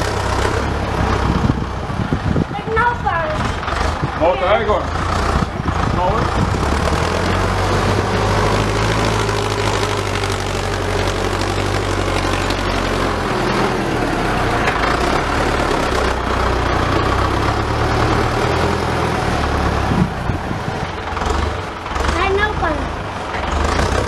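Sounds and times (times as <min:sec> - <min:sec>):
diesel tractor engine: 0:00.0 - 0:24.0.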